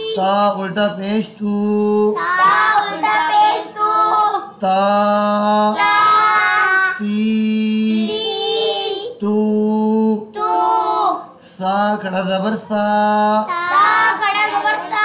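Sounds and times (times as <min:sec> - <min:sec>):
adult and child chanting syllables: 0:00.0 - 0:15.0.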